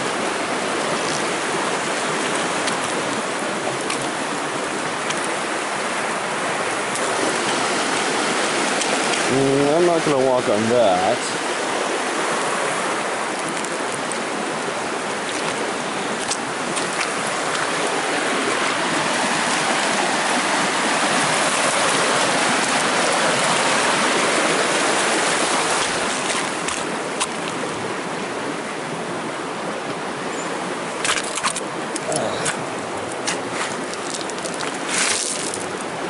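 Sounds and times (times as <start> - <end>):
creek rushing over rocks: 0.0 - 36.0.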